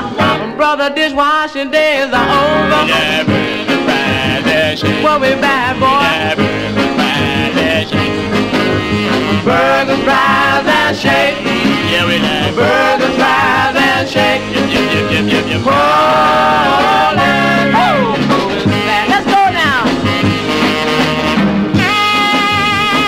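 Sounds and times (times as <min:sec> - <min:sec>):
doo-wop song with band and singing: 0:00.0 - 0:23.0.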